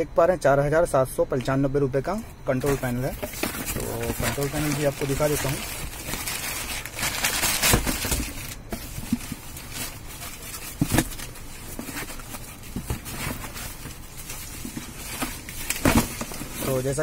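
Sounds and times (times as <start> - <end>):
plastic bag and foam crinkling: 2.5 - 17.0.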